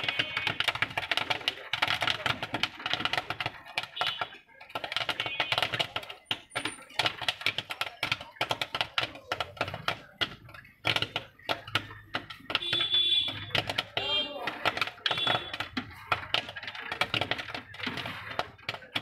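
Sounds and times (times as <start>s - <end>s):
popcorn popping in oil: 0.0s - 19.0s.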